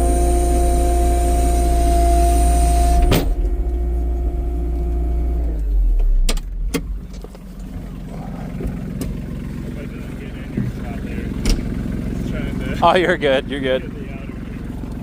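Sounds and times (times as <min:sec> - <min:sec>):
vehicle engine whining: 0:00.0 - 0:15.0.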